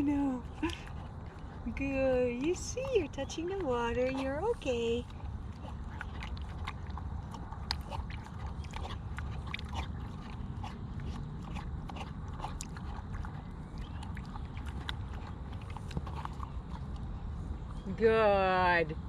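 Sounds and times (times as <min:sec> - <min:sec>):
animal lapping water: 0:00.0 - 0:17.8
steady low rumble: 0:00.0 - 0:19.0.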